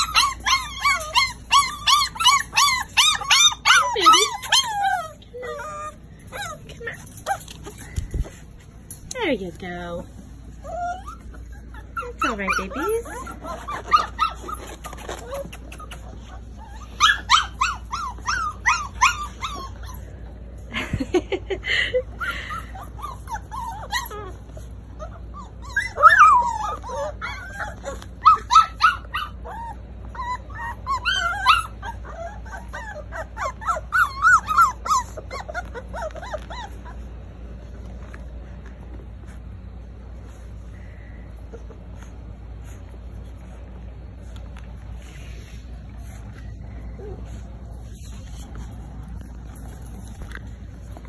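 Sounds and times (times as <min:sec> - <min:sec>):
puppies whining and yipping: 0:00.0 - 0:51.0.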